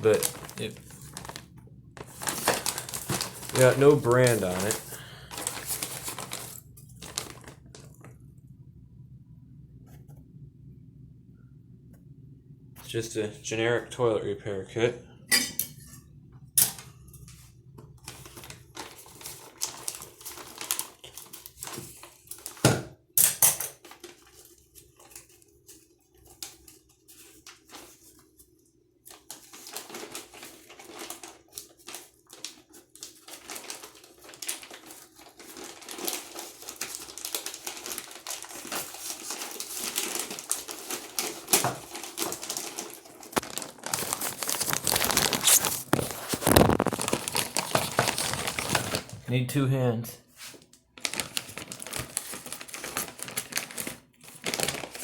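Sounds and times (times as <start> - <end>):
plastic packaging crinkling: 0.0 - 8.4, 16.6 - 22.8, 23.7 - 49.3, 50.4 - 55.0.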